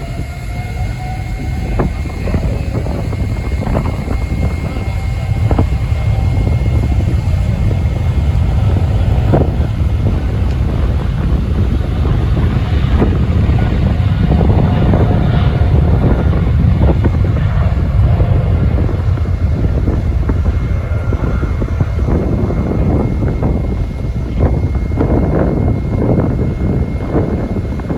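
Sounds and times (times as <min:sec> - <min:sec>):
jet engines rumbling: 0:00.0 - 0:27.9
thin jet engine whine: 0:00.0 - 0:27.9
wind buffeting microphone: 0:00.0 - 0:27.9.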